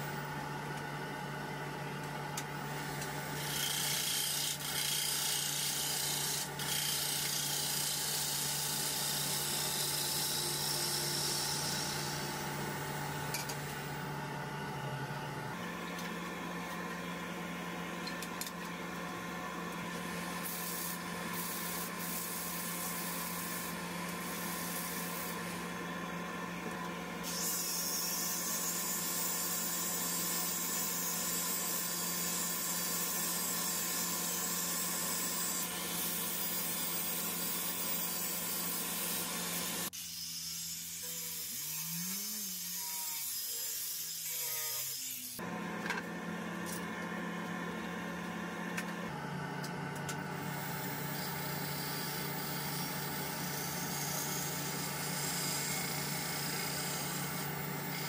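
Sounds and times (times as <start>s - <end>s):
angle grinder whine: 2.4s - 58.0s.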